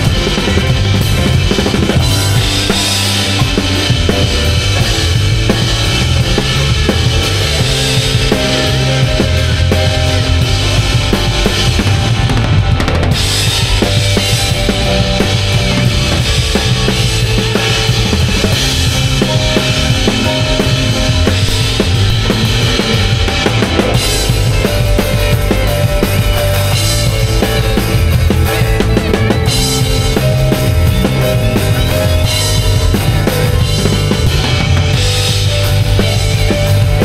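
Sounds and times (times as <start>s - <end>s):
bass drum: 0.0s - 37.0s
live rock band playing: 0.0s - 37.0s.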